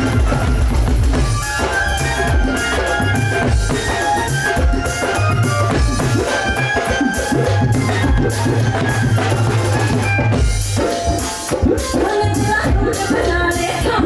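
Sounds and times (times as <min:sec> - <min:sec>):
live band music: 0:00.0 - 0:14.0
steady drum beat: 0:00.0 - 0:14.0.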